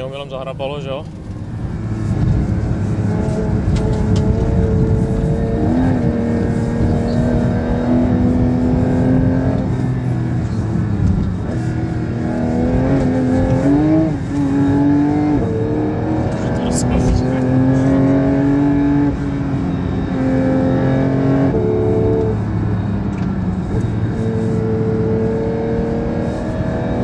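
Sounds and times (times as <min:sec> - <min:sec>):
car engine pulling uphill: 0:00.0 - 0:27.0.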